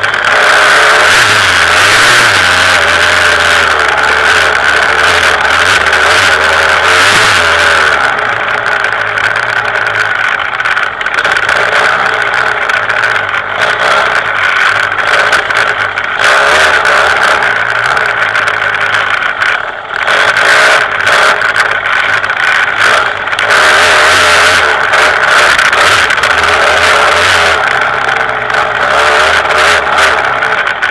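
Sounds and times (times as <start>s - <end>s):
two-stroke motorcycle engine revving: 0.0s - 30.9s.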